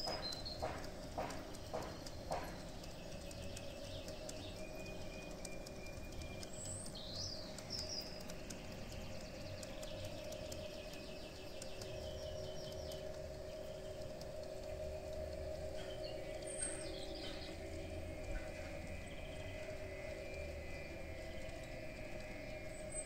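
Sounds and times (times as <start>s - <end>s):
bird chirping: 0.0s - 23.0s
wheels clicking over rail joints: 0.0s - 23.0s.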